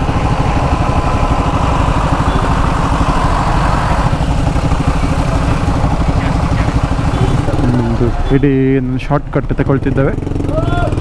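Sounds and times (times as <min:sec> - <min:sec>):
higher hum: 0:00.0 - 0:11.0
motorcycle engine running low revs: 0:00.0 - 0:11.0.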